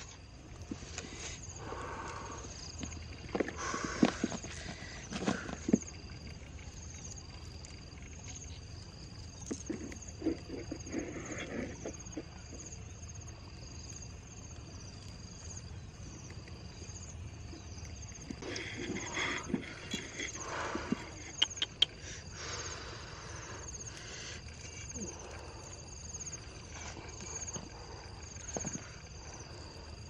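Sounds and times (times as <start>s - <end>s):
insects chirping: 0.0s - 30.0s
steady low hum: 0.0s - 30.0s.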